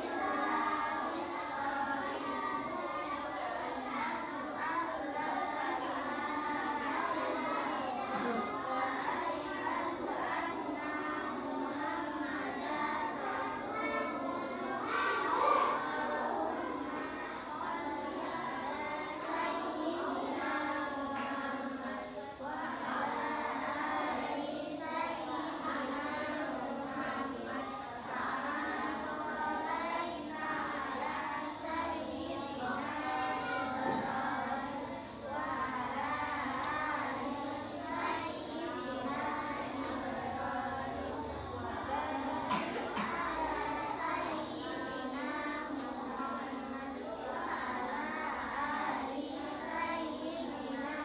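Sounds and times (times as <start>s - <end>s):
children chanting prayers: 0.0s - 51.0s.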